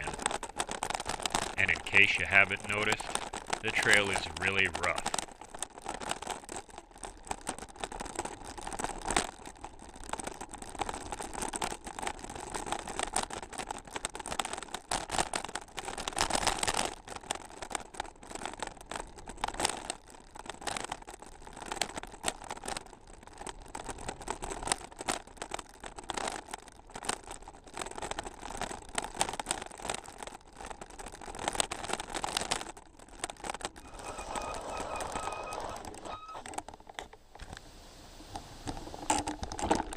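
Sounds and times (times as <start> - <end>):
bicycle rattling over gravel: 0.0 - 37.4, 38.5 - 39.9.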